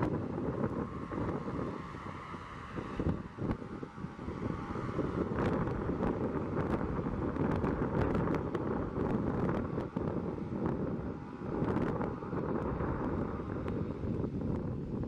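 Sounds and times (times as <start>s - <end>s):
turboprop engines rumbling: 0.0s - 15.0s
wind buffeting microphone: 0.0s - 15.0s.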